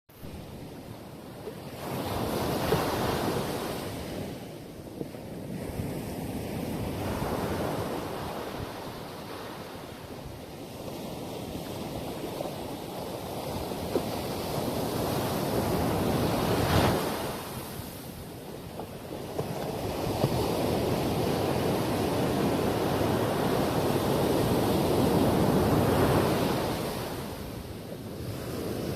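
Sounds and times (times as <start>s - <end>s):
ocean surf washing onto beach: 0.1s - 28.9s.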